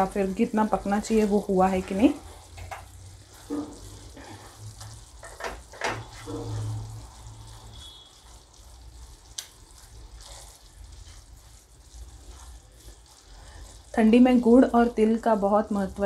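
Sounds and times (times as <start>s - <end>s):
syrup bubbling in a pan: 0.0s - 16.0s.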